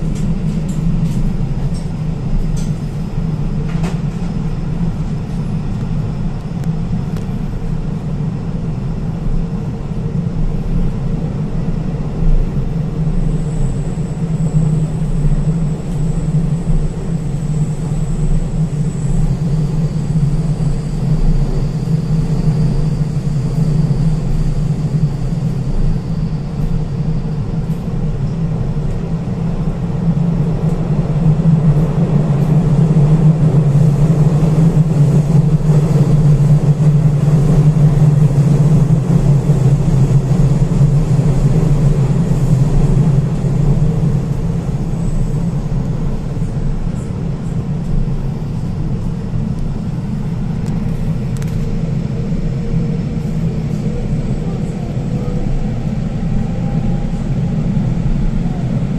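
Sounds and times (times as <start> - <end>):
train rumbling: 0.0 - 58.9.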